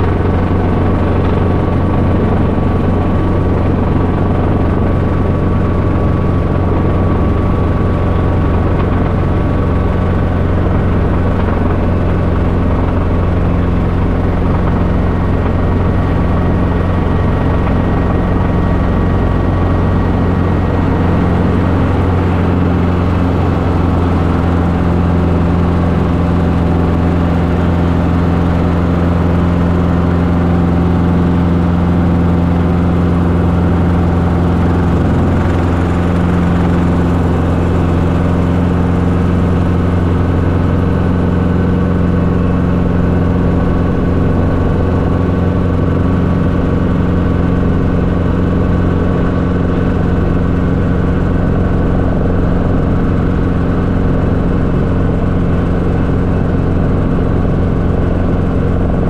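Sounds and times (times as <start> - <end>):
helicopter engine and rotors drone: 0.0 - 59.0.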